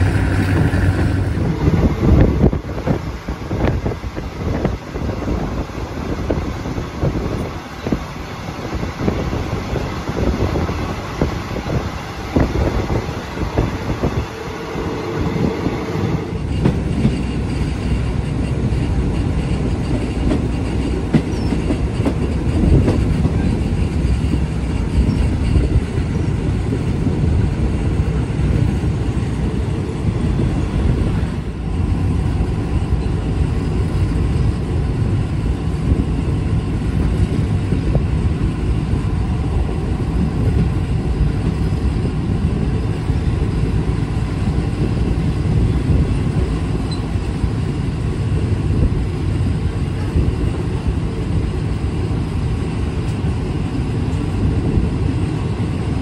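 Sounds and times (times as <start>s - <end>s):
moving train rumble: 0.0s - 56.0s.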